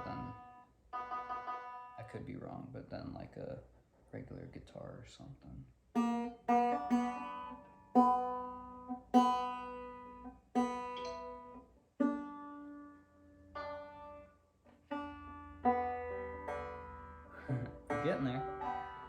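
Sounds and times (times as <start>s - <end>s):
banjo strings plucked: 0.0s - 3.6s, 5.9s - 19.0s.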